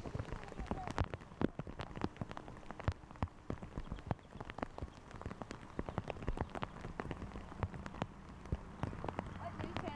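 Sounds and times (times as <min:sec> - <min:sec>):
rain drops tapping hard surface: 0:00.0 - 0:09.9.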